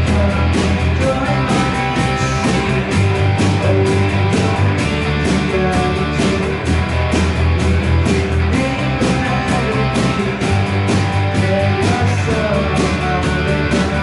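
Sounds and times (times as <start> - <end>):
bass guitar: 0.0 - 14.0
drum kit beat: 0.0 - 14.0
electric guitars: 0.0 - 14.0.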